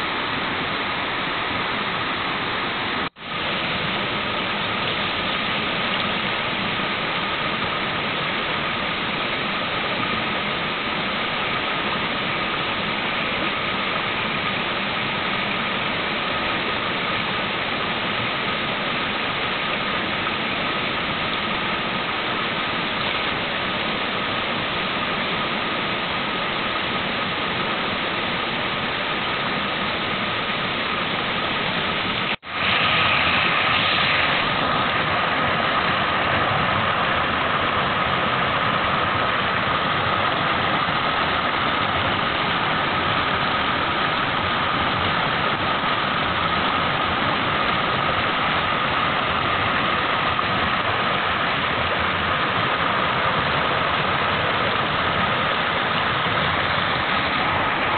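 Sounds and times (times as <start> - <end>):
stream rushing over rock: 0.0 - 57.9.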